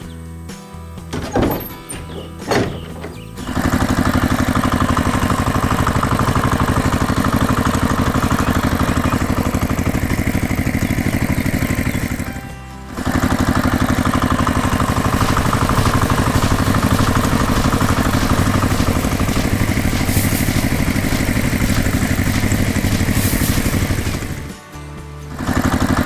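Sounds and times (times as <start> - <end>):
heavy engine clattering: 1.0 - 24.6, 25.4 - 26.0.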